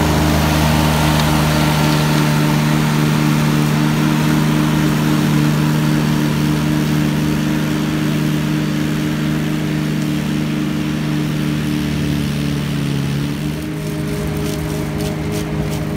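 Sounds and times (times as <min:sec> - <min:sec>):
flail mower humming: 0:00.0 - 0:15.9
rushing noise of cutting grass: 0:00.0 - 0:15.9.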